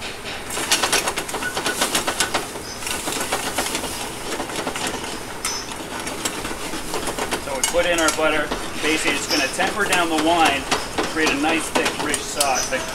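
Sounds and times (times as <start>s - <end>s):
metal tongs scraping pan: 0.5s - 12.9s.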